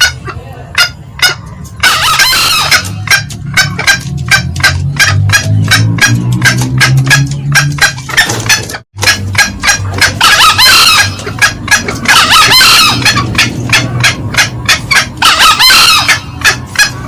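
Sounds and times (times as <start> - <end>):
shrill cackling: 0.0 - 5.9, 7.9 - 17.0
junglefowl clucking: 0.0 - 17.0.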